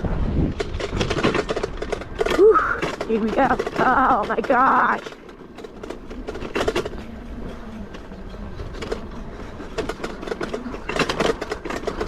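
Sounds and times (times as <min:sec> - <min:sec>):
bike frame rattling and clunking: 0:00.0 - 0:12.0
faint electric motor whine: 0:02.1 - 0:12.0.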